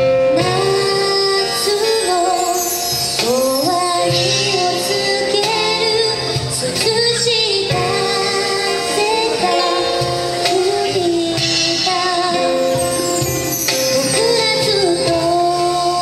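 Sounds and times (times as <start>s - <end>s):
small band playing: 0.0s - 16.0s
woman singing a slow ballad: 0.2s - 16.0s.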